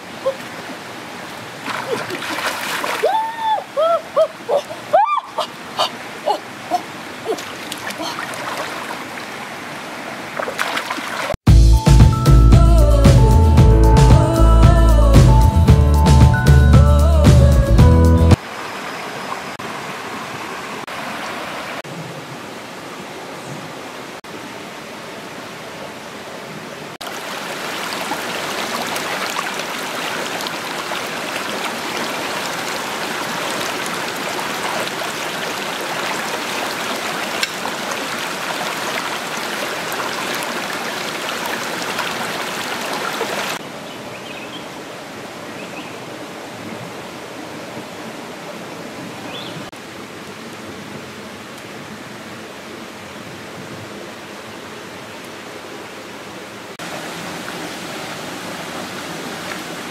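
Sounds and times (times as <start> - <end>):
stream water rushing over stones: 0.0 - 11.4, 18.3 - 44.1, 44.7 - 59.9.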